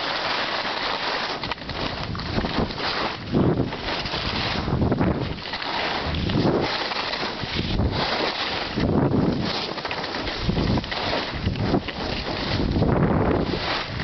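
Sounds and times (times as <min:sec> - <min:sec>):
skis scraping over snow: 0:00.0 - 0:14.0
wind rushing over microphone: 0:01.4 - 0:14.0.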